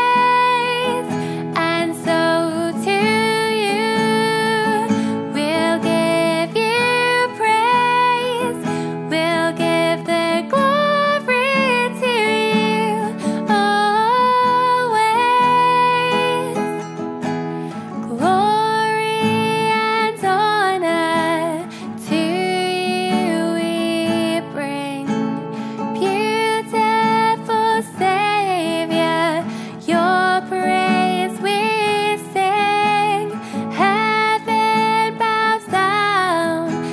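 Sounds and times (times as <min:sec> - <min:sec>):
woman singing worship song: 0:00.0 - 0:16.8, 0:18.0 - 0:36.9
strummed acoustic guitar: 0:00.0 - 0:36.9.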